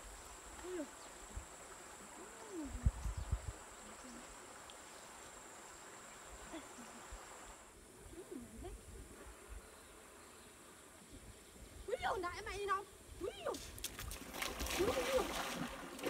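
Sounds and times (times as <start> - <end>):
outdoor background: 0.0 - 16.0.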